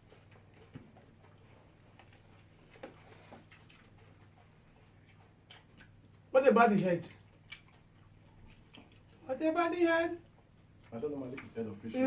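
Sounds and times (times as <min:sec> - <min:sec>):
faint eating clicks: 0:00.0 - 0:11.9
low steady hum: 0:00.0 - 0:12.0.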